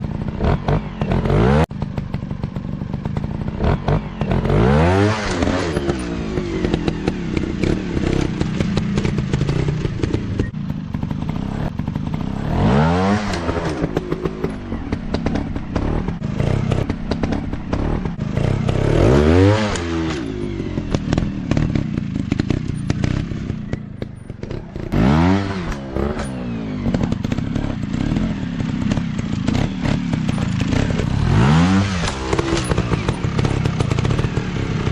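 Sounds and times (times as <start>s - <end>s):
dirt bike engines revving: 0.0s - 34.9s
knocks and clatter: 5.2s - 34.9s.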